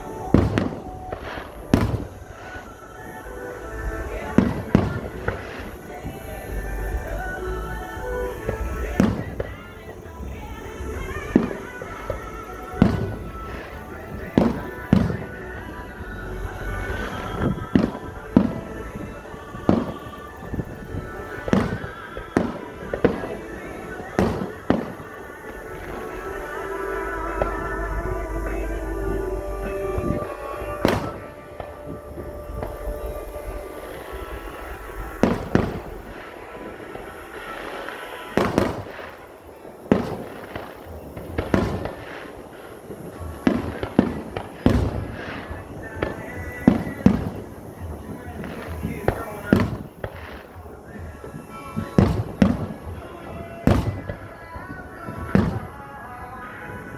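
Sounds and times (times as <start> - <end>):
background music: 0.0 - 56.9
fireworks booming: 0.0 - 56.9.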